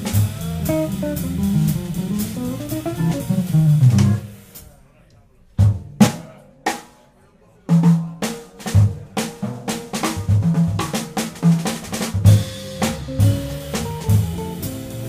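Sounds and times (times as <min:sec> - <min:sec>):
jazz drum kit solo: 0:00.0 - 0:04.7, 0:05.6 - 0:07.0, 0:07.7 - 0:15.0.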